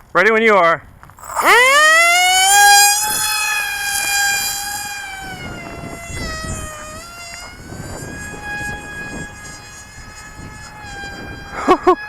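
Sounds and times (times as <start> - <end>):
model plane electric motor whine: 1.0 - 12.0.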